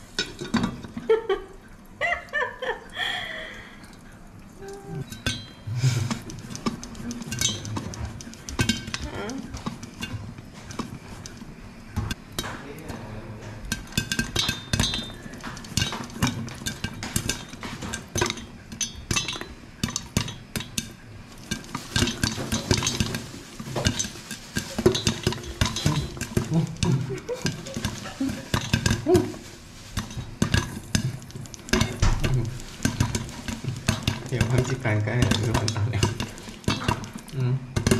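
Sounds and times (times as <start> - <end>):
pot rattling on stove grate: 0.0 - 1.4, 5.0 - 37.9
popcorn popping in a pot: 0.0 - 37.9.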